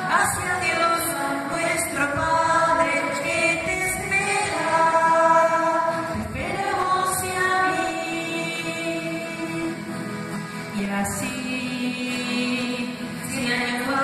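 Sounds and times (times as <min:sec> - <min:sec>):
women singing in chorus: 0:00.0 - 0:09.8, 0:10.7 - 0:14.0.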